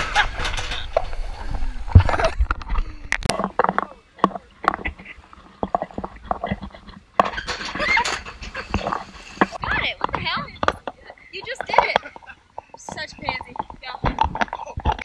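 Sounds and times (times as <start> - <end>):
voices calling out: 0.0 - 15.0
sharp knocks and clicks: 2.0 - 15.0.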